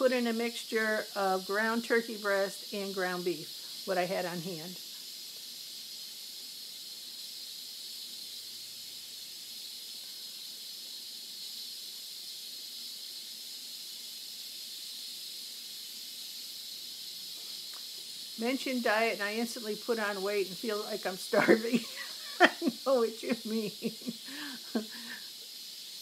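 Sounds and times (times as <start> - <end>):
pressure cooker hissing steam: 0.0 - 26.0.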